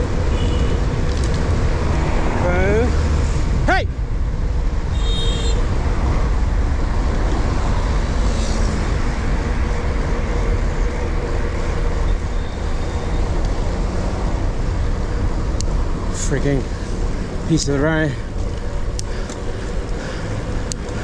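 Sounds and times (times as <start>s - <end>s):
tyre and traffic noise: 0.0s - 21.0s.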